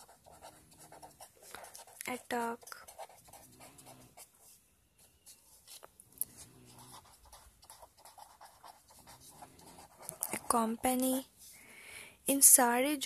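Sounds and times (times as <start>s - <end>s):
pen scratching on paper: 0.0s - 11.5s.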